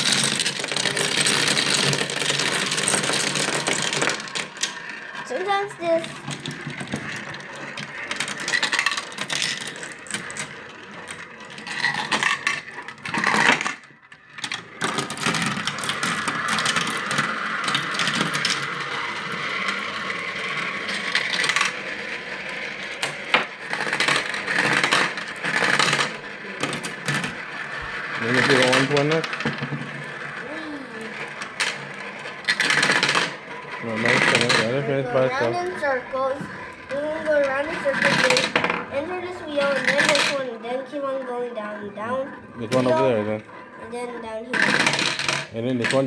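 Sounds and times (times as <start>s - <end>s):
marbles rolling and clattering: 0.0s - 46.0s.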